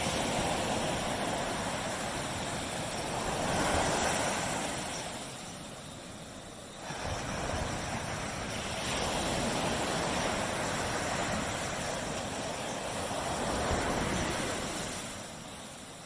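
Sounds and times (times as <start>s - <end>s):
small waves breaking on beach: 0.0s - 16.0s.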